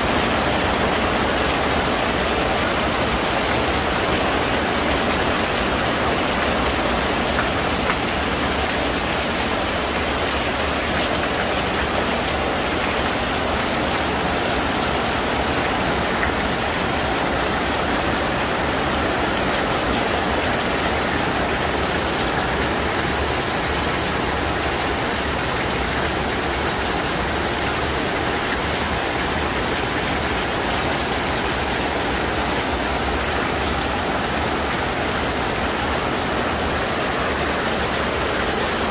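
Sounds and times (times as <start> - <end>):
heavy rain on pavement: 0.0 - 38.9
water pouring off roof: 0.0 - 38.9.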